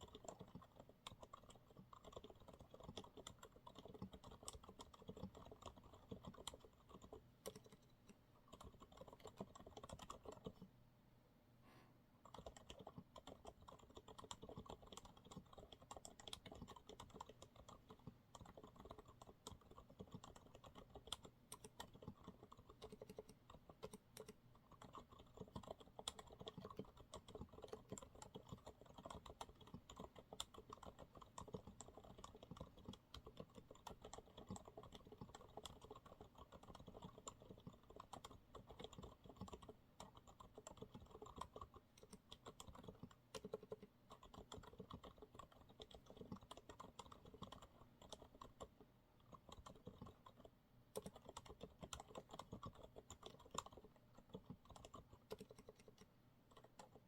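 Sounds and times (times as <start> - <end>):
quiet mechanical keyboard typing: 0.0 - 10.8, 12.2 - 57.0.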